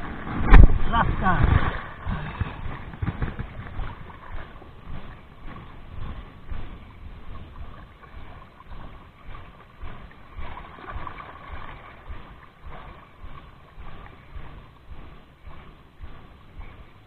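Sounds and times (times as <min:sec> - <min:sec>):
waves lapping against rocks: 0:00.0 - 0:17.0.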